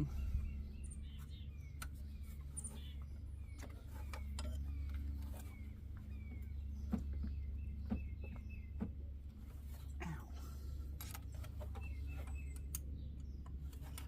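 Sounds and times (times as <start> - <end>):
bird chirping: 0.0 - 10.3, 11.0 - 14.0
steady low hum: 0.0 - 14.0.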